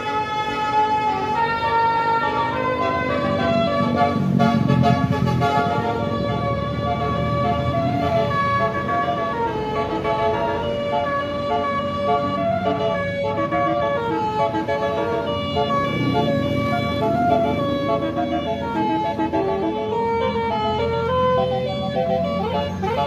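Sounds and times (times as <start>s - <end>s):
multi-tone air horn tune: 0.0s - 23.0s.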